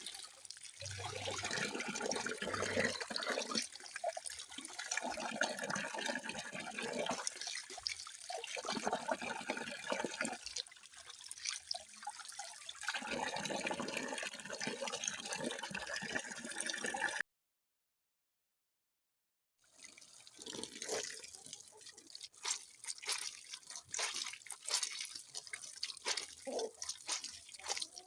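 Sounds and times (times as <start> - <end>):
running splashing water: 0.0 - 14.7, 19.8 - 28.0.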